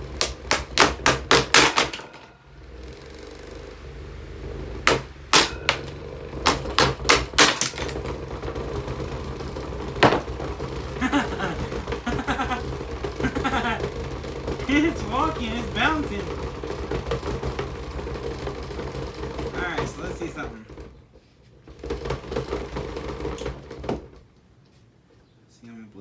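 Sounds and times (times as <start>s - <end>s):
fan knocking with rapid clacks: 0.0s - 24.4s
fan motor hum: 0.0s - 24.8s.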